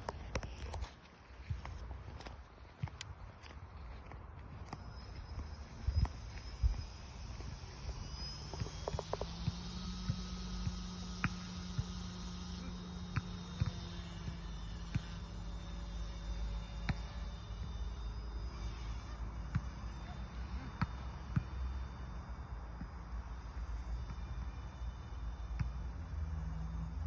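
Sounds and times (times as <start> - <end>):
rc helicopter buzzing hum: 0.0 - 27.0.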